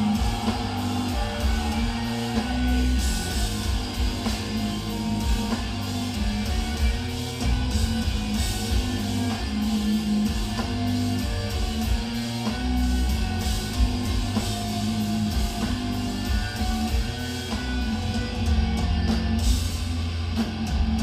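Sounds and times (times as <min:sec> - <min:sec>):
live heavy metal band: 0:00.0 - 0:21.0.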